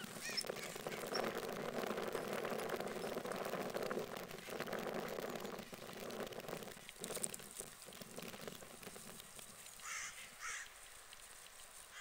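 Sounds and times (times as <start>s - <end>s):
low background rush: 0.0s - 12.0s.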